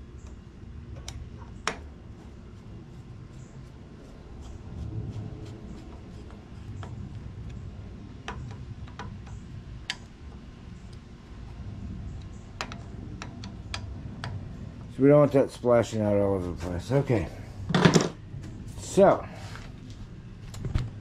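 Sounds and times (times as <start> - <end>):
low rumble: 2.0 - 21.0.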